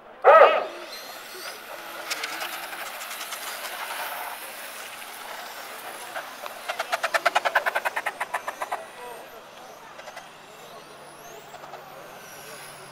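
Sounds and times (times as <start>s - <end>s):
rc motorbikes running: 0.2s - 12.9s.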